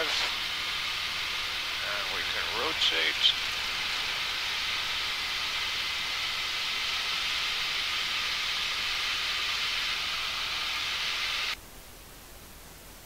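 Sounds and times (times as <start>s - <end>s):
aircraft cabin engine hiss: 0.0s - 13.0s.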